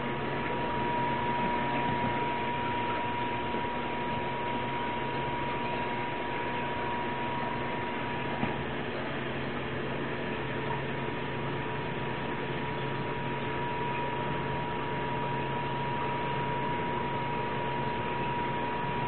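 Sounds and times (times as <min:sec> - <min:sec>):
aquarium equipment hum and whine: 0:00.0 - 0:19.0.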